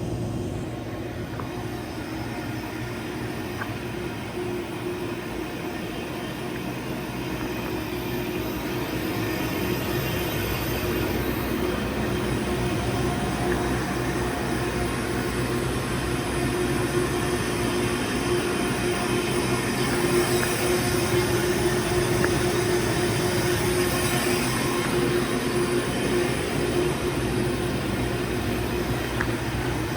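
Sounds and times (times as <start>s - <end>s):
machine hum with held tone: 0.0s - 29.9s.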